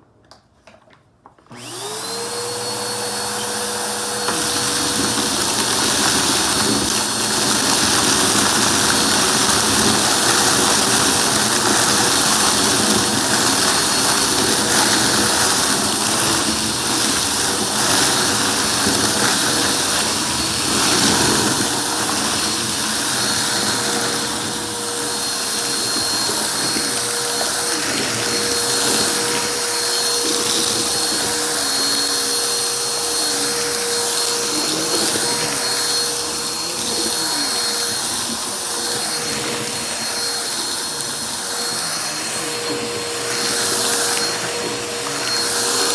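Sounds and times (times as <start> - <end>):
vacuum cleaner running: 1.4 - 45.9.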